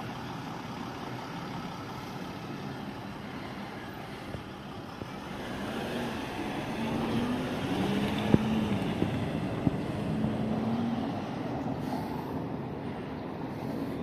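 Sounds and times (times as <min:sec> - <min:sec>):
van engine pulling away: 0:00.0 - 0:14.0.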